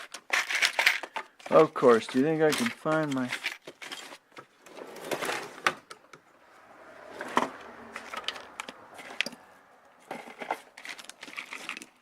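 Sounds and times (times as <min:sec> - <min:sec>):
rustling of tools and objects: 0:00.0 - 0:12.0.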